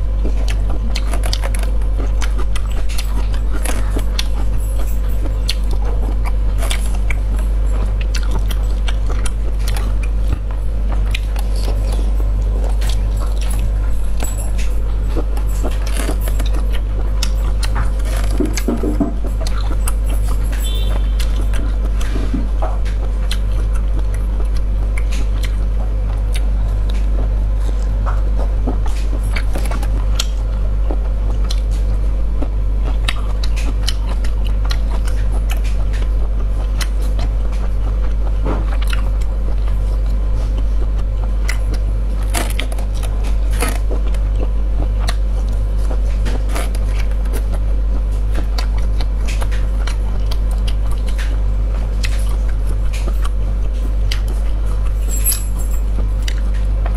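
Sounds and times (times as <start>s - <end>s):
chewing and biting sausage: 0.0s - 56.9s
steady low hum: 0.0s - 56.9s.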